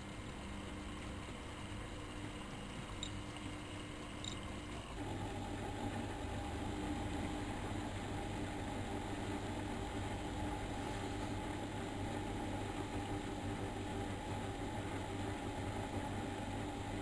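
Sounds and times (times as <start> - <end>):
washing machine hum: 0.0 - 17.0.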